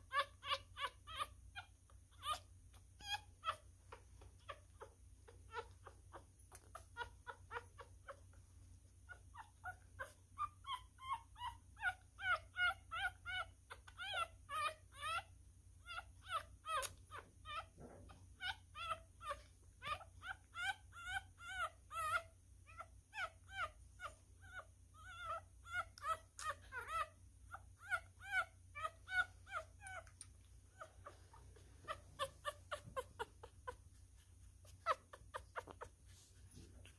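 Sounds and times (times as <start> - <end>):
puppy squeaking: 0.0 - 36.9.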